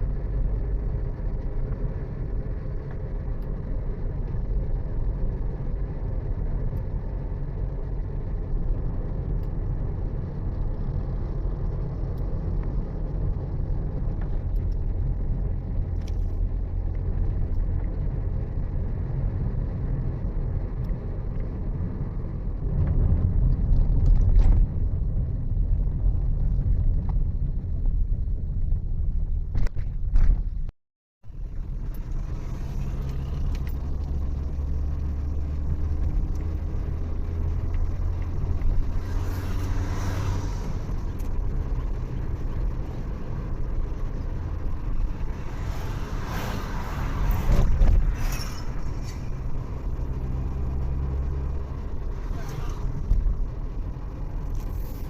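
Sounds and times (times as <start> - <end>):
vehicle driving on road: 0.0 - 55.0.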